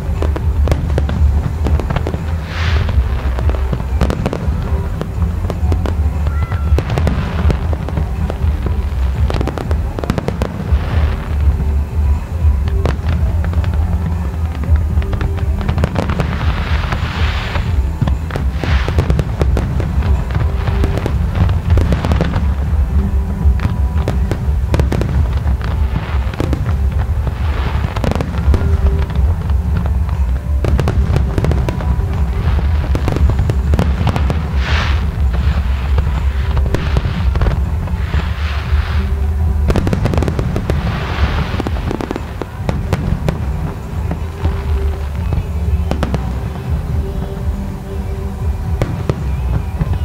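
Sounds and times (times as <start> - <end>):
deep rumble: 0.0 - 50.0
fireworks bangs and crackles: 0.0 - 50.0.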